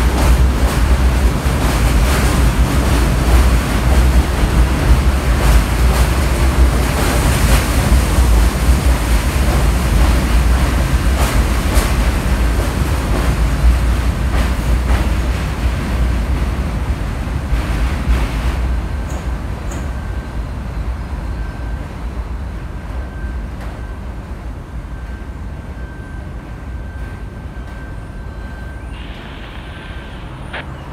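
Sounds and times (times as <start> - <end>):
subway train wheels rumbling on rails: 0.0 - 30.9.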